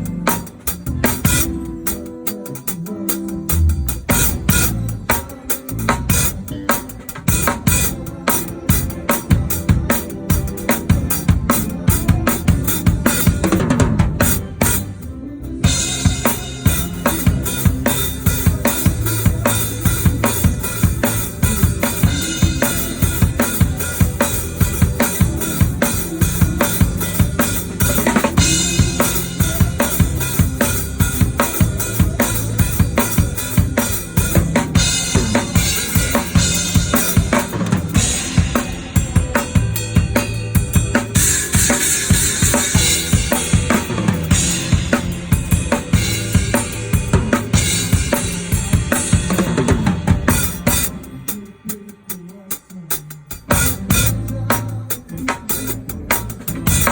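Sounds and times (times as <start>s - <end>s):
bass notes: 0.0s - 2.2s, 2.9s - 51.4s, 53.5s - 56.9s
drum kit playing: 0.0s - 56.9s.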